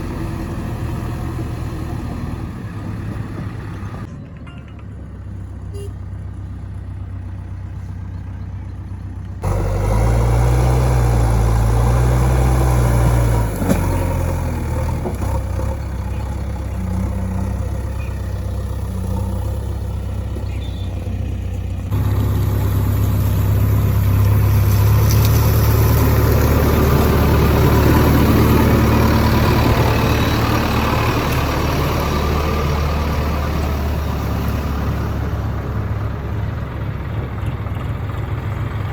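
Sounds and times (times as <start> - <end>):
diesel engine revving: 0.0 - 4.1, 5.6 - 38.9.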